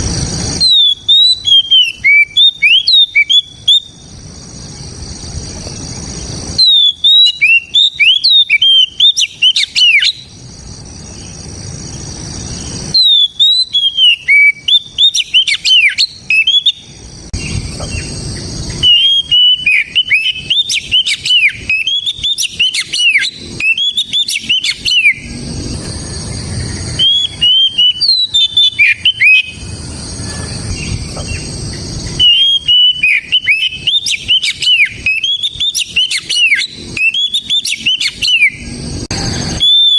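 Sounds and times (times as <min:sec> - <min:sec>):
bird singing whistles: 0:00.5 - 0:10.4, 0:12.3 - 0:39.9.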